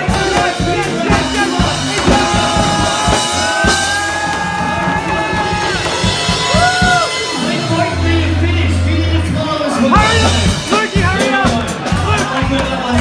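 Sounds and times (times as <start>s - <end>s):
loud bar music with drum beat: 0.0s - 13.0s.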